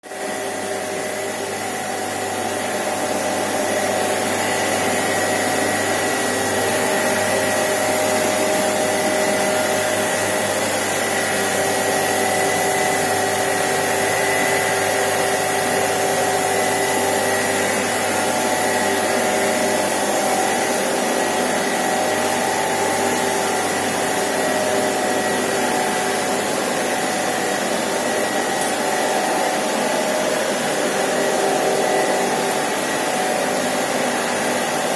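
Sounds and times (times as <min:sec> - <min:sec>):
pool pumps hissing and whining: 0:00.0 - 0:34.9.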